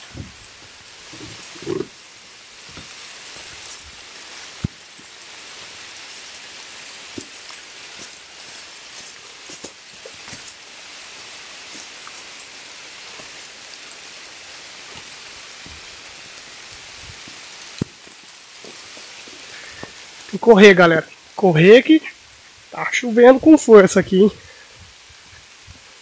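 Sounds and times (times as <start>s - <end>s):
heavy rain on river: 0.0s - 26.0s.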